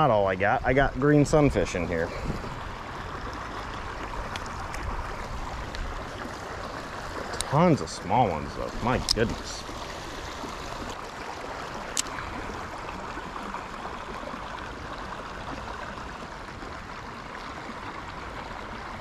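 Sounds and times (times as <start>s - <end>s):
creek water running over riffle: 0.0s - 19.0s.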